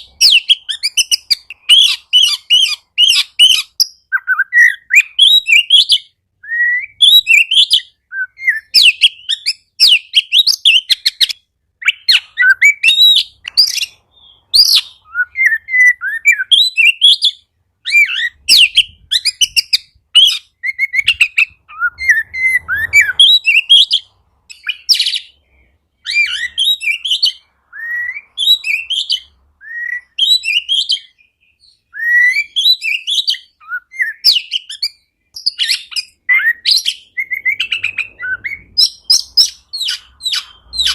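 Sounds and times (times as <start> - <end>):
bird singing whistles and chirps: 0.0 - 40.9.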